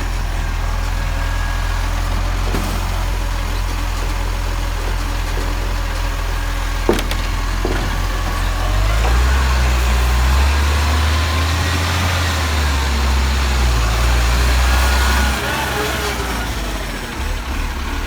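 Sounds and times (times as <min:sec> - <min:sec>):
garbage truck engine: 0:00.0 - 0:18.0.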